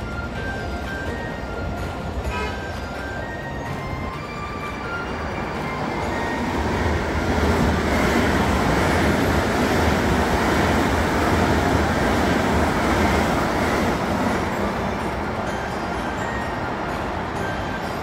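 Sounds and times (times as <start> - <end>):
train passing close by: 0.0 - 18.0.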